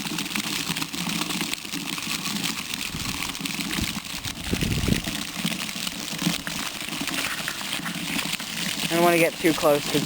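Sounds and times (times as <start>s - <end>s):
water gushing from pipe: 0.0s - 10.0s.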